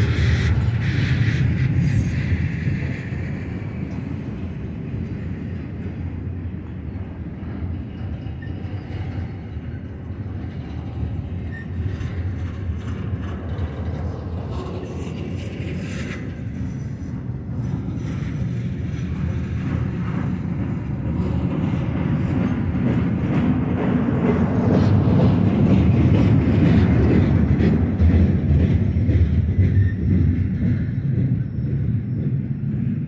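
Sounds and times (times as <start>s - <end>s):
freight train rolling on rails: 0.0s - 33.0s.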